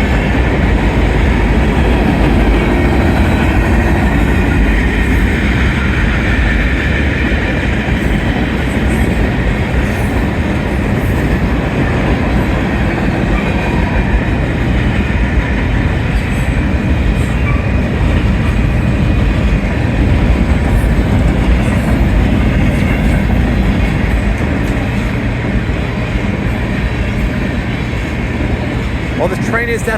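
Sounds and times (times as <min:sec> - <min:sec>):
freight train wheels on rail: 0:00.0 - 0:29.9.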